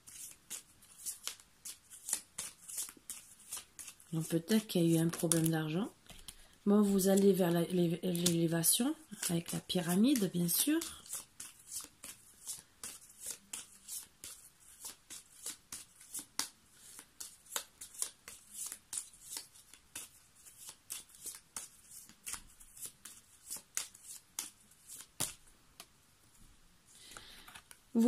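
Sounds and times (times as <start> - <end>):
cards shuffled by hand: 0.0 - 25.9.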